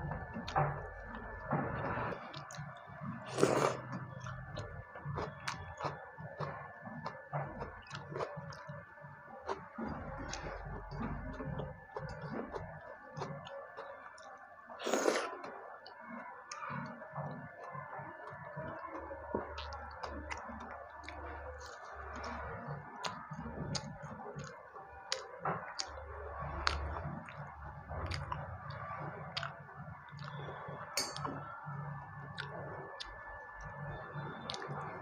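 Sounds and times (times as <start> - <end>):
person chewing wetly: 0.0 - 31.4, 32.2 - 34.8.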